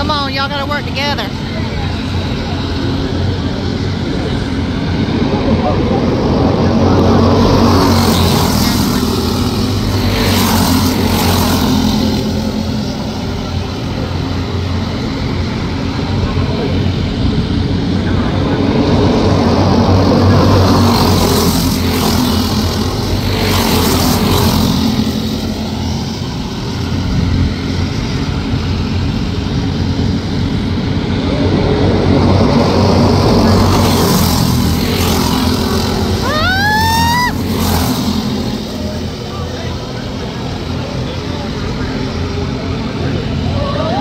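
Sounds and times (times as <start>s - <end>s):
kart engines racing: 0.0s - 44.0s.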